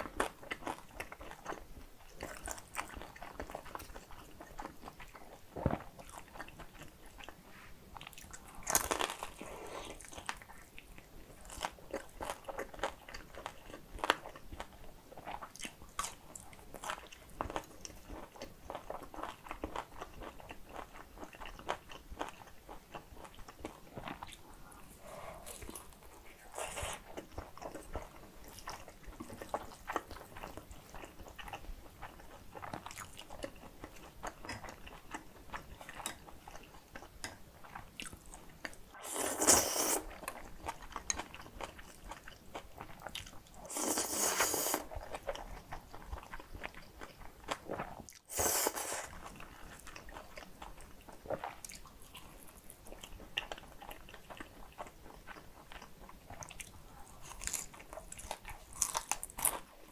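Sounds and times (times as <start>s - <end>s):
crunchy chewing of dumplings: 0.0s - 59.9s.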